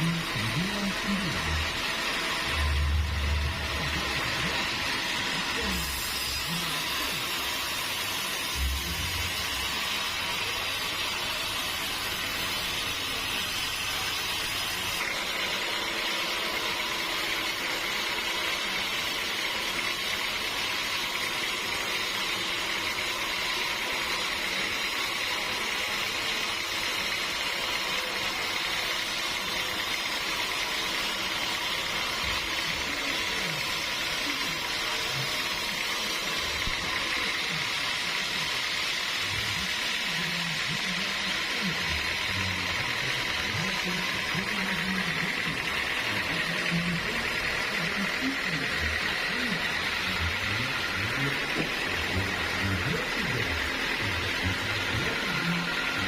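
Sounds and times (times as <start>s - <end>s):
saw running with whine: 0.0s - 56.0s.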